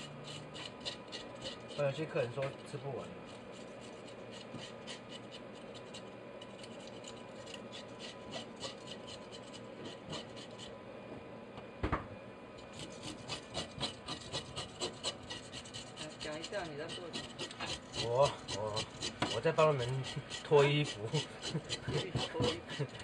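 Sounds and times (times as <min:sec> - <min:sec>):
fish scaler scraping scales: 0:00.0 - 0:10.8, 0:12.6 - 0:23.0.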